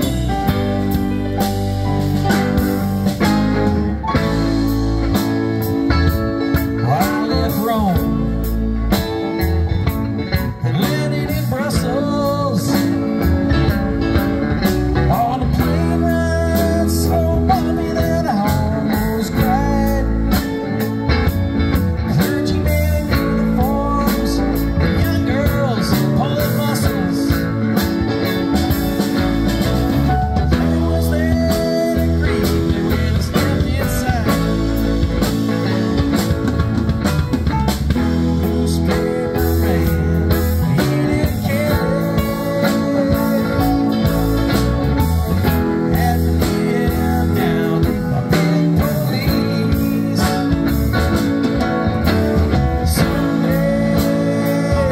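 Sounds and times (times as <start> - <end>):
drum kit: 0.0 - 54.9
electric bass: 0.0 - 54.9
electric guitars: 0.0 - 54.9
keyboard: 0.0 - 54.9
sliding lead guitar lines: 0.0 - 54.9.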